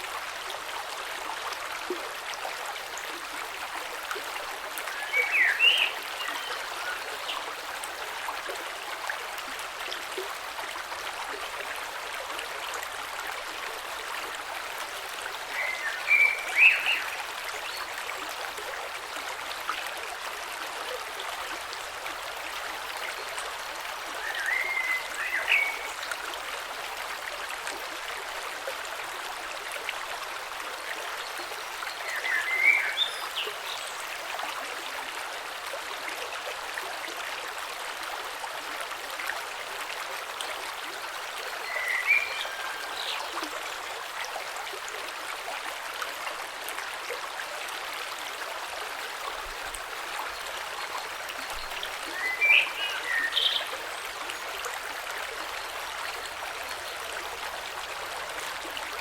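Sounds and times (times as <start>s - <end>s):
creek flowing over stones: 0.0s - 59.0s.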